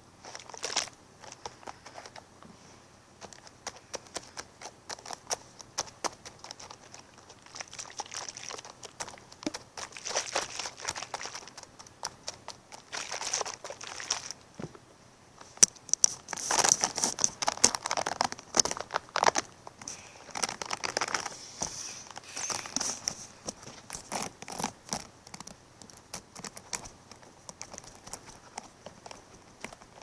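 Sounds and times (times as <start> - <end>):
crinkling handling noise: 0.0 - 30.0.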